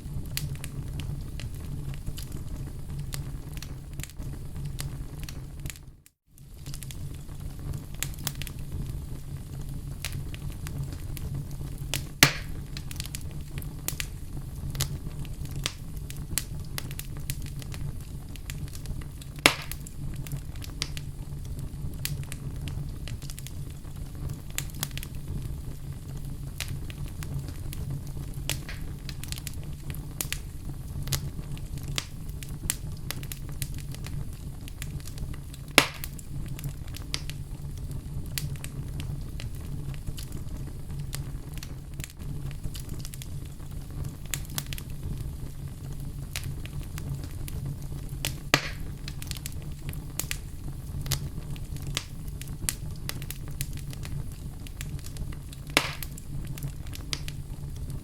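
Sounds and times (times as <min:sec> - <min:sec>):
fire crackling in fireplace: 0:00.0 - 0:58.0
fire popping: 0:00.0 - 0:58.0.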